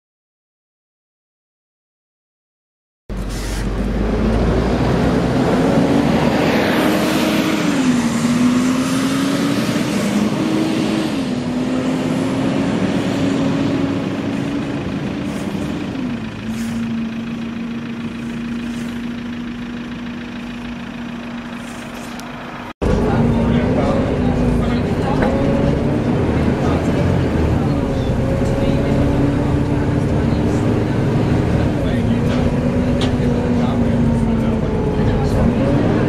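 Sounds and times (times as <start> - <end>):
bus engine pulling away: 3.1 - 36.0.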